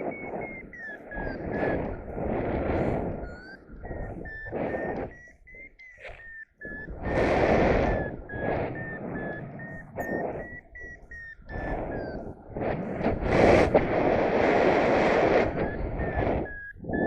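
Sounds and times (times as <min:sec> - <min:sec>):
variometer beeping: 0:00.0 - 0:17.0
wind gusts on microphone: 0:00.0 - 0:17.0.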